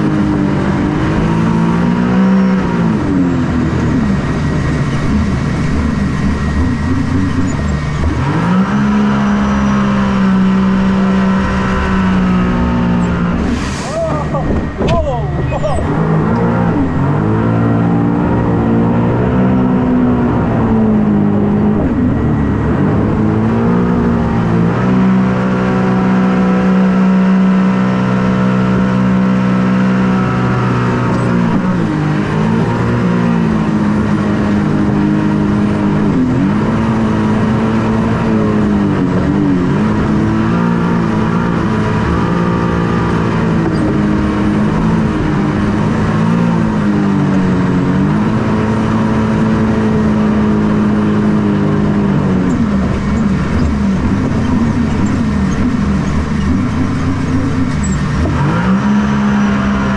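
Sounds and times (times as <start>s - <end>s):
boat engine revving: 0.0s - 59.9s.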